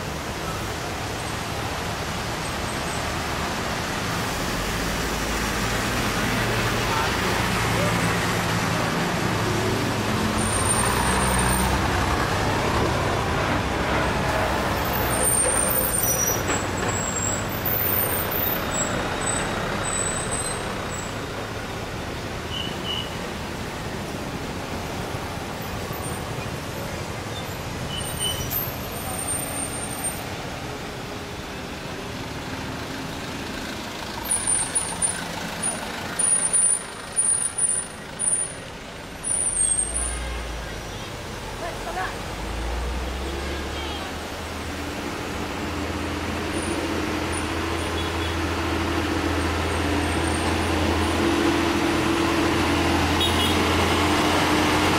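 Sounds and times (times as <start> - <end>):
diesel engines working hard: 0.0 - 54.9.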